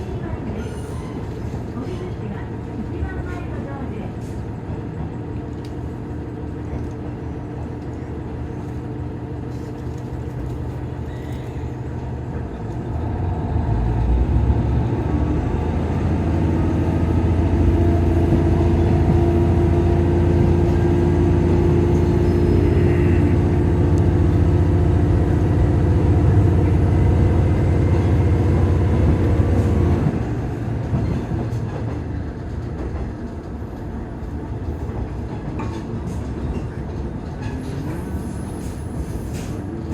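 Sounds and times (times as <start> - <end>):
diesel railcar engine: 0.0 - 39.9.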